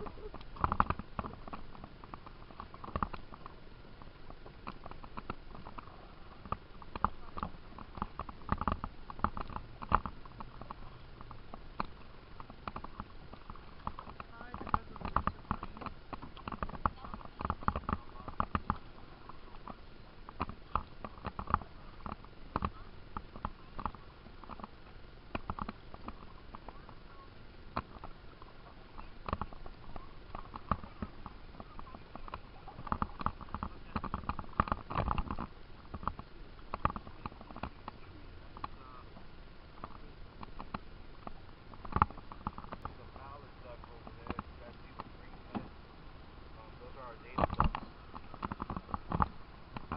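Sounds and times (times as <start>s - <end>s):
paddle knocking against canoe: 0.0s - 27.0s, 27.7s - 45.8s, 47.1s - 49.9s.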